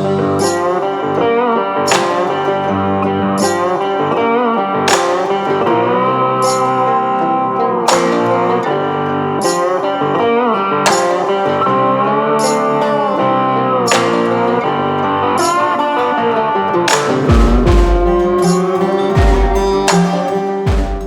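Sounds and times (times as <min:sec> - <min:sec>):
bluesy guitar music with beat: 0:00.0 - 0:21.0.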